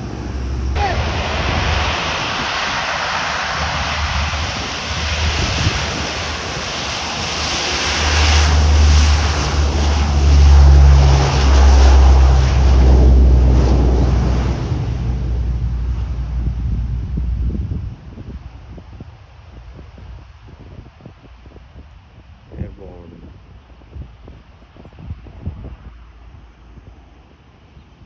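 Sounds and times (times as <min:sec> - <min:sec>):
turboprop engines droning: 0:00.0 - 0:28.0.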